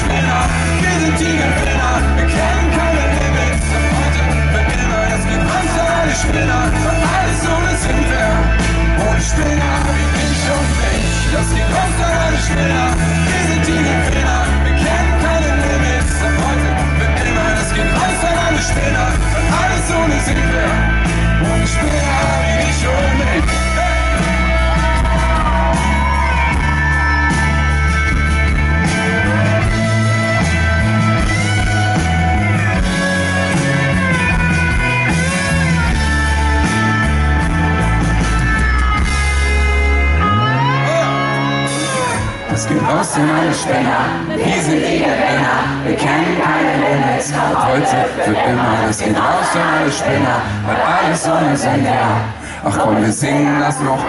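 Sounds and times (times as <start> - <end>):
bending guitar lead lines: 0.0 - 53.1
live pop-rock band playing: 0.0 - 54.0.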